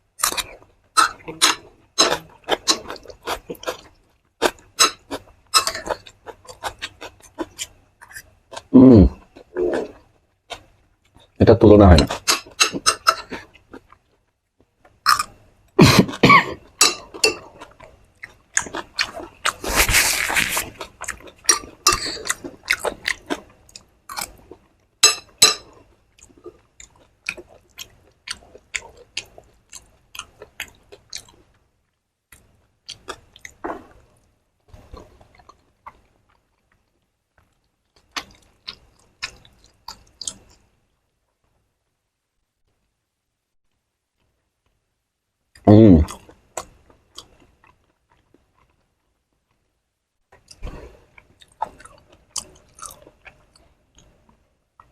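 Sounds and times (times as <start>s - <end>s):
person chewing: 0.2s - 11.4s, 12.0s - 14.2s, 14.9s - 31.6s, 32.3s - 40.7s, 46.0s - 49.2s, 50.4s - 54.9s.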